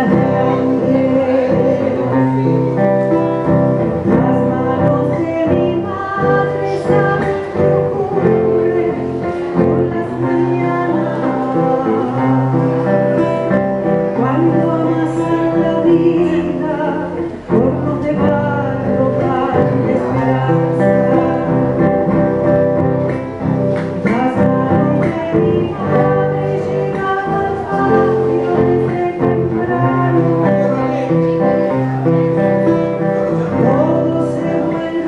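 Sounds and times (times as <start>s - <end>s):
guitar music: 0.0s - 35.0s.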